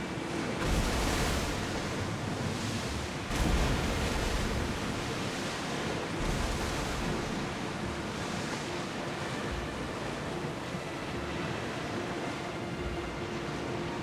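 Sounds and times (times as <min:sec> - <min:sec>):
sea waves rushing: 0:00.0 - 0:14.0
wind: 0:00.0 - 0:14.0.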